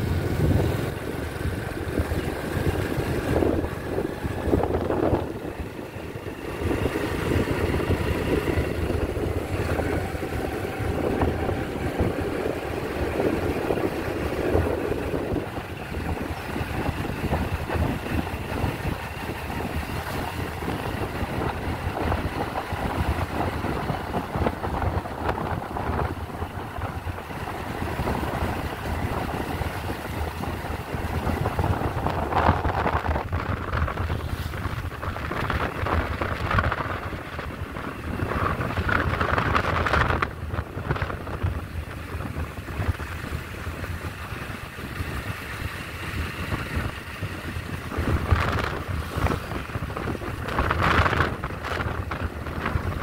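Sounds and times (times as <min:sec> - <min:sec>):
scooter engine and tyres: 0:00.0 - 0:53.0
wind buffeting microphone: 0:00.0 - 0:53.0.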